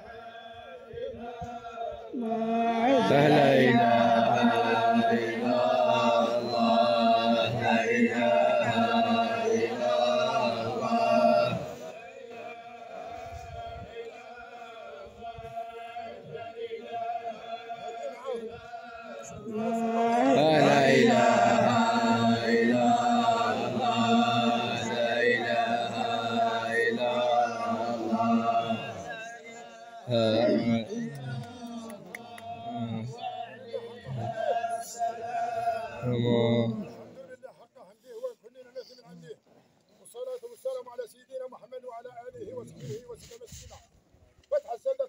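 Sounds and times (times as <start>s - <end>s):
men chanting in unison: 0.0s - 37.4s.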